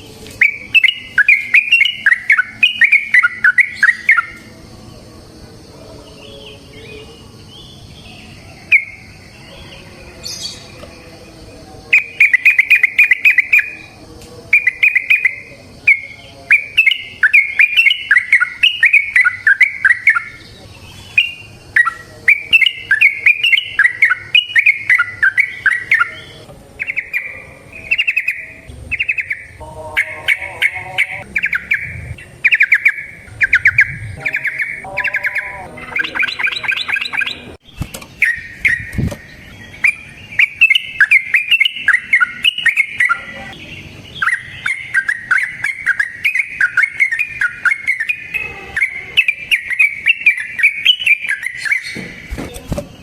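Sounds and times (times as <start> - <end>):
bird singing bubbling phrases: 0.0 - 4.5, 6.2 - 9.7, 11.9 - 52.0.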